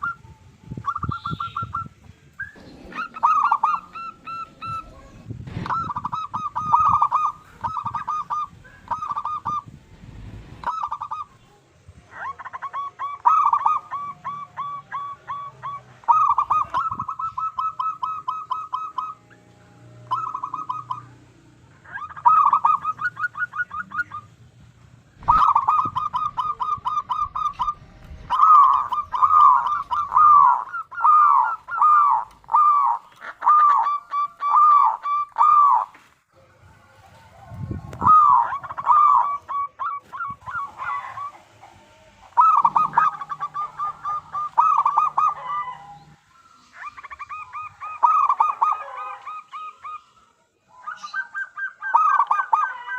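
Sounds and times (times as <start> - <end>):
dove cooing: 0.0 - 24.4, 25.2 - 36.0, 37.1 - 52.9.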